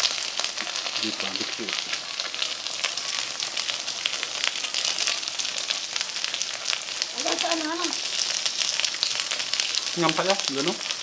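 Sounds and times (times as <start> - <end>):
food sizzling on a grill pan: 0.0 - 11.0.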